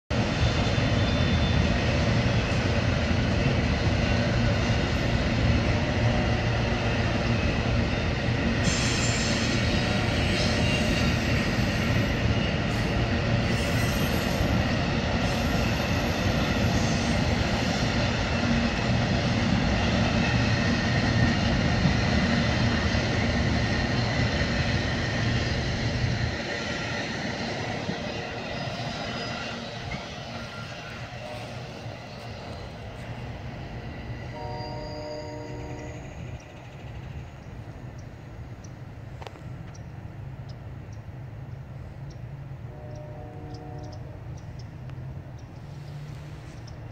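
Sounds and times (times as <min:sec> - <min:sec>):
train rumbling on rails: 0:00.1 - 0:46.9.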